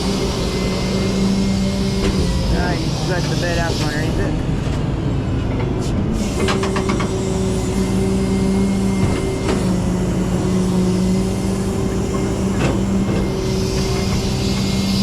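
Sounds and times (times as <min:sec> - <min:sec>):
hydraulic whine: 0:00.0 - 0:15.0
truck engine rumble: 0:00.0 - 0:15.0.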